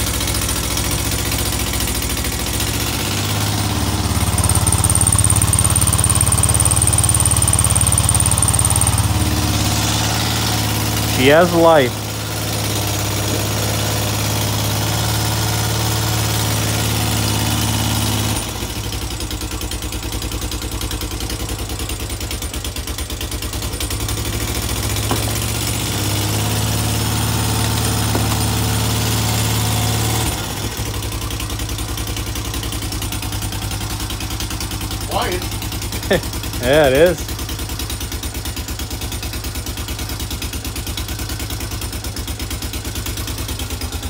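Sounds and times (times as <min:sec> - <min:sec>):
single-cylinder engine running: 0:00.0 - 0:44.0.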